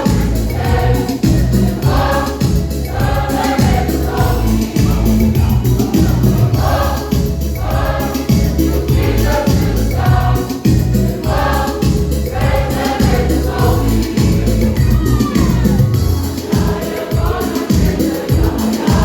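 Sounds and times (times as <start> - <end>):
accompaniment with bass beat: 0.0 - 19.0
children's choir singing: 0.0 - 19.0.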